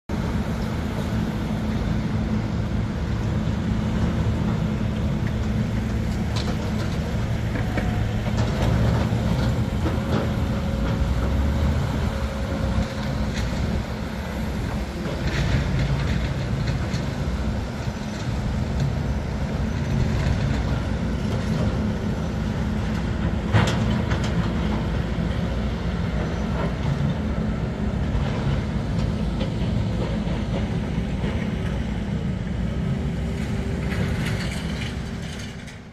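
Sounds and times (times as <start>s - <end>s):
diesel engine rumble: 0.1s - 35.9s.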